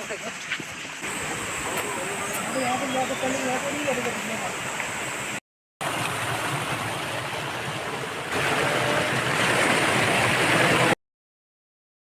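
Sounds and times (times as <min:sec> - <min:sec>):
waterfall rushing: 0:01.0 - 0:11.0.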